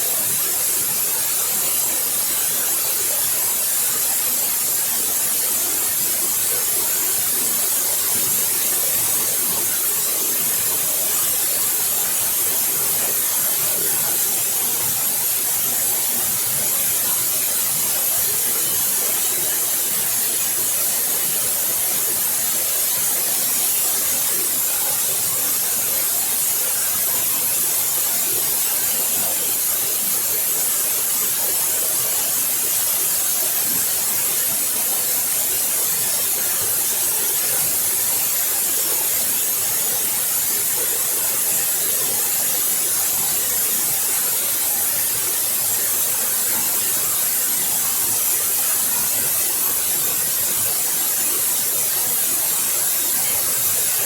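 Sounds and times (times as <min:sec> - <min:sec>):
waterfall: 0:00.0 - 0:54.0.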